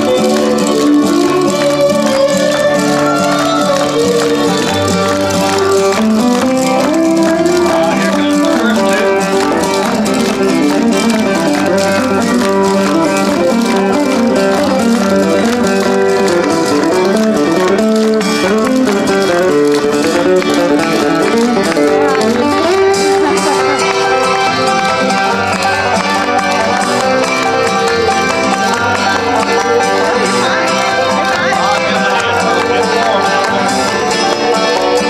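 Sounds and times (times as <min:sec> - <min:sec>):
bluegrass string-band music: 0:00.0 - 0:35.0
clogging shoes tapping pavement: 0:00.0 - 0:35.0.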